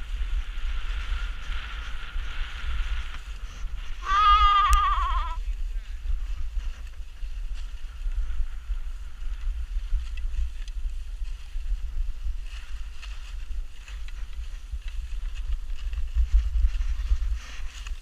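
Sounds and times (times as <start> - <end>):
skis sliding on snow: 0.0 - 18.0
wind buffeting microphone: 0.0 - 18.0.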